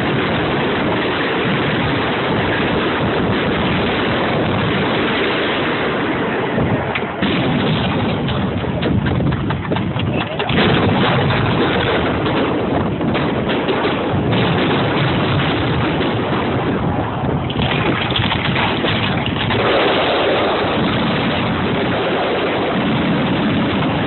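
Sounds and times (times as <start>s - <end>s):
fireworks rumbling and crackling: 0.0s - 24.0s.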